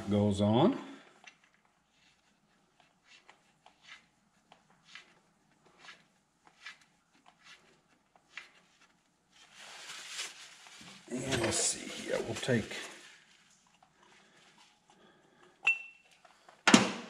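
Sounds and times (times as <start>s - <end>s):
soft rustle: 1.0s - 15.4s.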